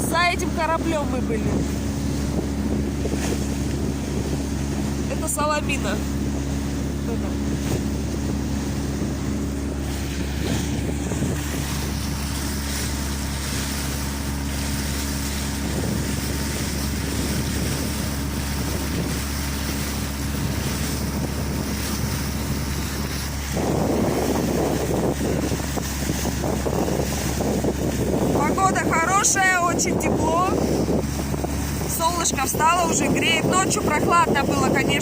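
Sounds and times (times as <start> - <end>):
boat engine running: 0.0 - 35.0
water rushing past: 0.0 - 35.0
wind buffeting microphone: 0.0 - 35.0.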